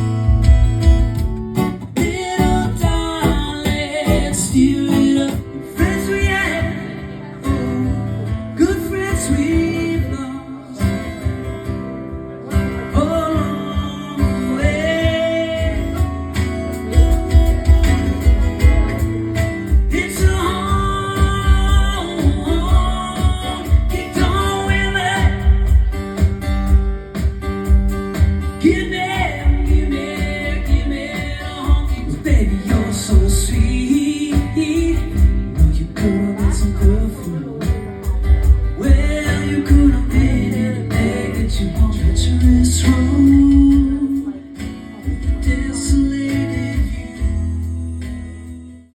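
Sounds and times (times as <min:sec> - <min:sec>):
acoustic guitar playing country song: 0:00.0 - 0:49.0
man singing: 0:01.5 - 0:48.9.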